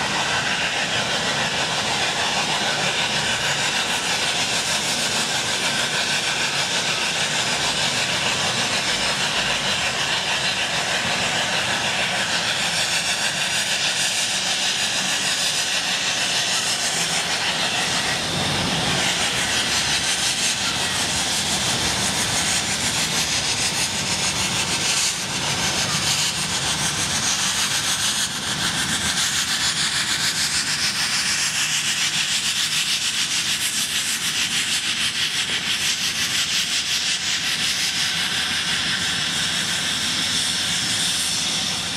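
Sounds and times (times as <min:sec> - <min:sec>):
steam hissing: 0:00.0 - 0:41.9
steam locomotive chuffing: 0:00.0 - 0:41.9.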